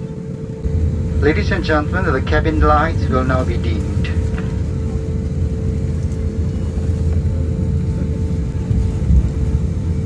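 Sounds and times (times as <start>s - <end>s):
jet engine low rumble: 0.0s - 10.0s
steady hum: 0.0s - 10.0s.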